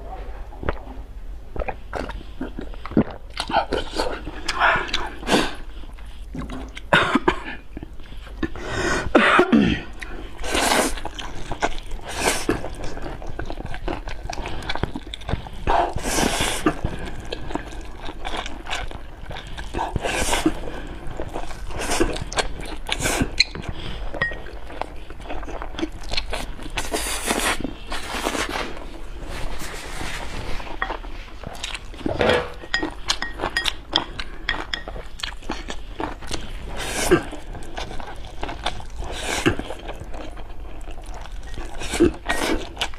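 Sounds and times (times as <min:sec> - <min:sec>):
person chewing and slurping noodles: 0:01.6 - 0:09.2, 0:09.8 - 0:42.9.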